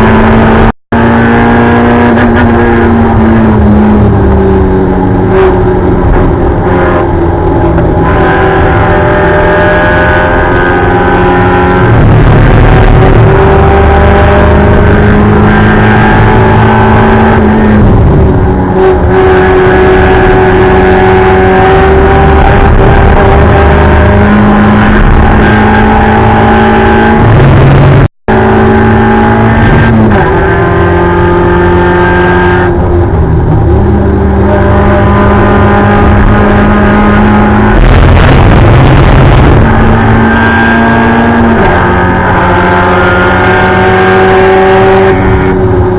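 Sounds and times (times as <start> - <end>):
race car engine revving high: 0.0 - 45.9.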